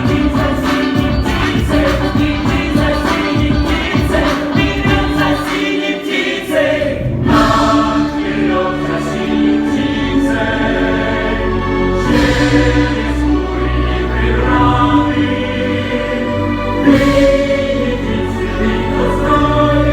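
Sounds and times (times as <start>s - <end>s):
choir holding sustained notes: 0.0s - 19.9s.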